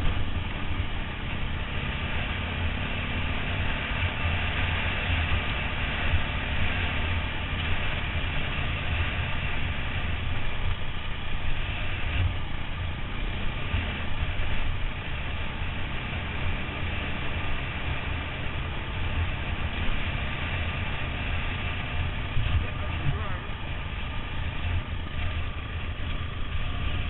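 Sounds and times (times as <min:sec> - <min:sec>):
motorbike engine: 0:00.0 - 0:27.0.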